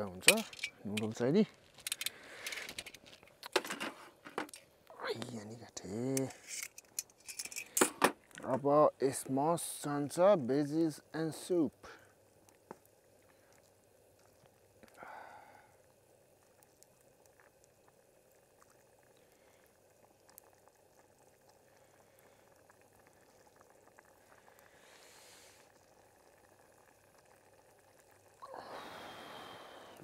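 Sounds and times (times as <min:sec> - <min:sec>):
campfire crackling: 0:00.0 - 0:30.0
soup simmering in a pot: 0:00.0 - 0:30.0.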